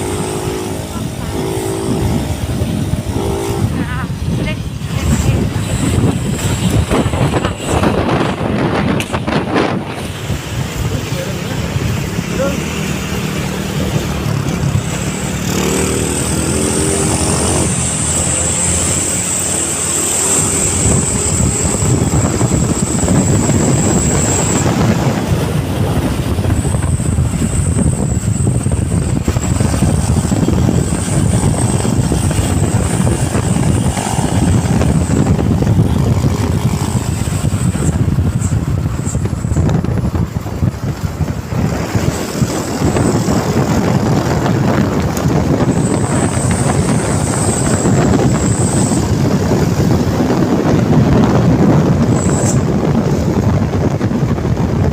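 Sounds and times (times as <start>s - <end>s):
diesel truck engine rumbling: 0.0s - 54.9s.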